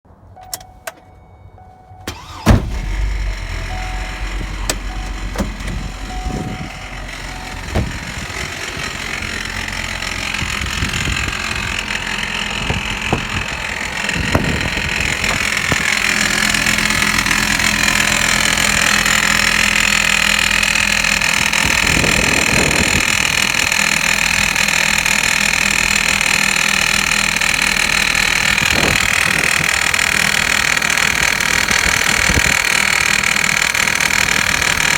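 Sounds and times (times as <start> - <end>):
car engine starting and idling: 0.3 - 34.9
engine rattling: 2.1 - 34.9.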